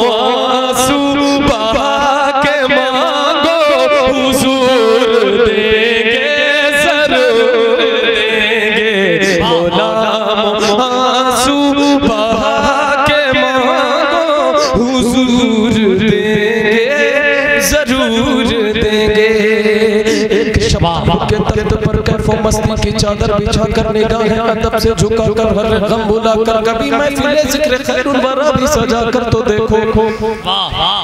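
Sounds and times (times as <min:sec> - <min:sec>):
man singing into a microphone: 0:00.0 - 0:31.0.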